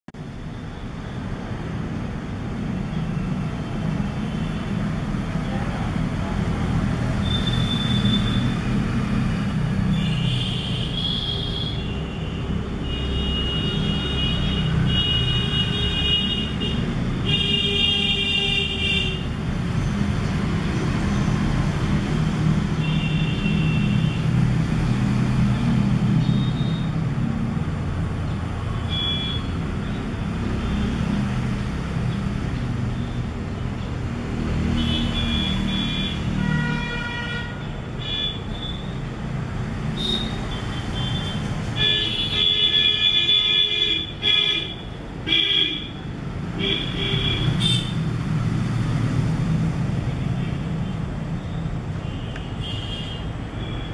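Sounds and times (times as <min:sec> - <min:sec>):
road traffic rumble: 0:00.1 - 0:53.9.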